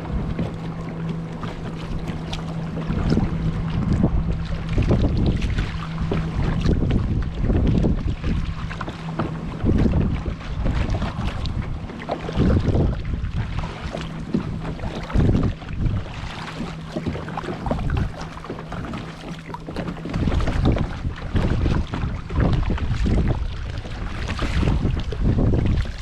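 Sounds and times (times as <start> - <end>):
water splashing against kayak: 0.0 - 26.0
wind buffeting microphone: 0.0 - 26.0.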